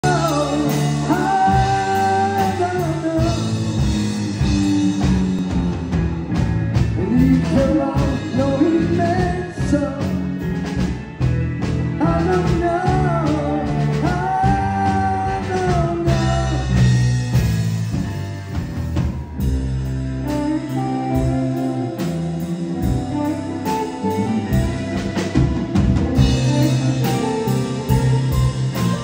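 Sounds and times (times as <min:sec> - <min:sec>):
drum kit: 0:00.0 - 0:29.0
electric bass: 0:00.0 - 0:29.0
electric guitar: 0:00.0 - 0:29.0.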